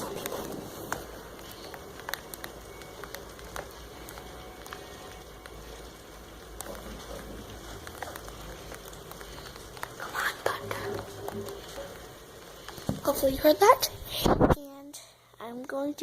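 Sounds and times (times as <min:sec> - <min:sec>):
light ticks and crackles: 0:00.0 - 0:16.0.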